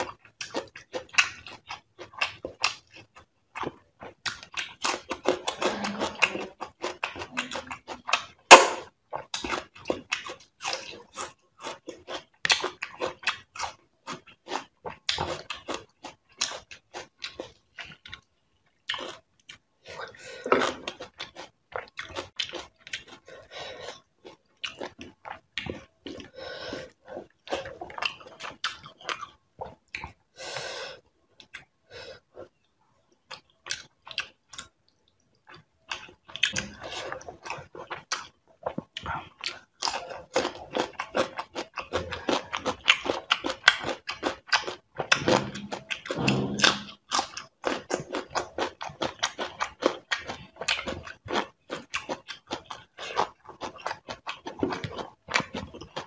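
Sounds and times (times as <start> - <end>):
person chewing with mouth clicks: 0.0 - 56.0.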